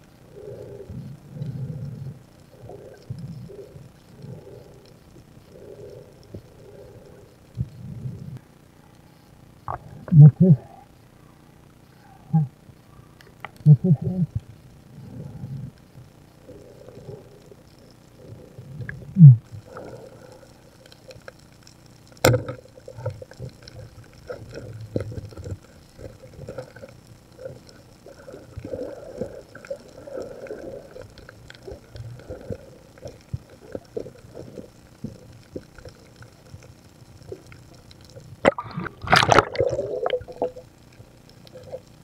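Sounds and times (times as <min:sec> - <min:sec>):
underwater clicks and crackles: 0:00.0 - 0:42.0.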